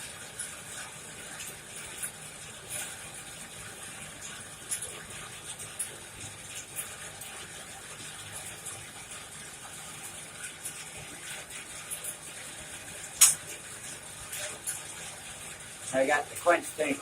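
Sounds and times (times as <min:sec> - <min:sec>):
burning coal crackling: 0:00.0 - 0:17.0.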